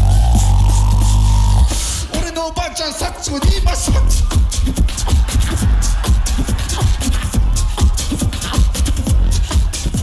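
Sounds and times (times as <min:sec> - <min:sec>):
beatboxing: 0:00.0 - 0:10.0.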